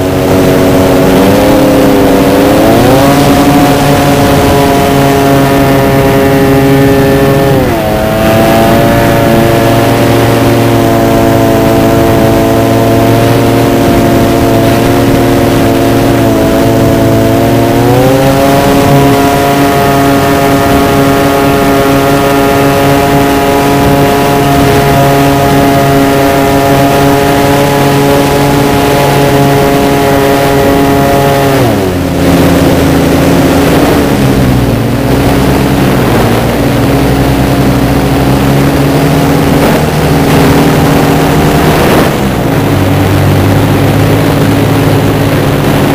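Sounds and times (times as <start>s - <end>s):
model airplane motor droning: 0.0s - 45.9s.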